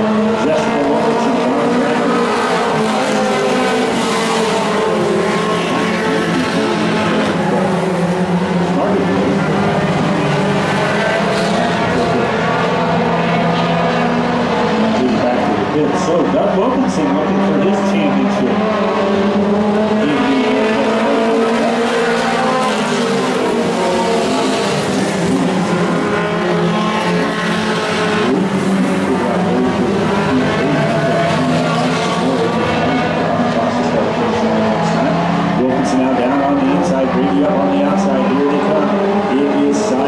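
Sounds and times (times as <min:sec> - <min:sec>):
race truck engines passing: 0:00.0 - 0:40.0.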